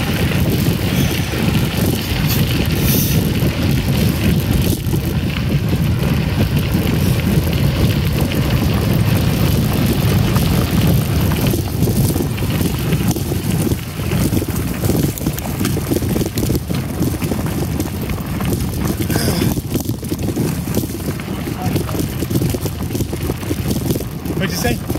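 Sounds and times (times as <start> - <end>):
bike rattles and clicks: 0.0 - 24.9
tyres rolling on gravel: 0.0 - 24.9
wind buffeting microphone: 0.0 - 24.9.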